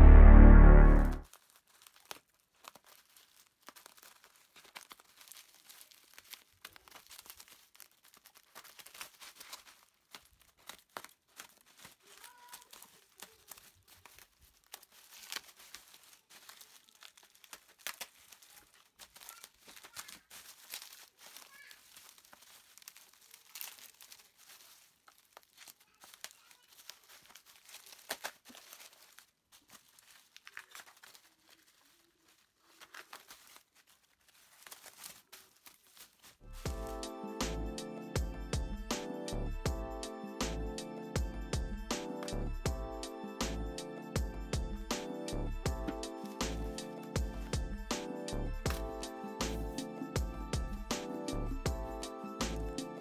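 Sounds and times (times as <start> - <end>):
bubble wrap crinkling: 0.7 - 53.0.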